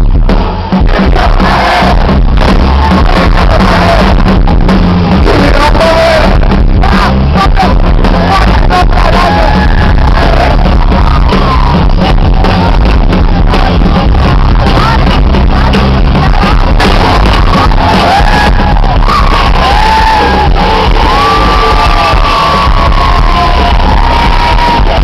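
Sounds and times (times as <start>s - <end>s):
live rock band playing: 0.0s - 25.0s
person singing: 0.8s - 4.4s, 5.1s - 25.0s.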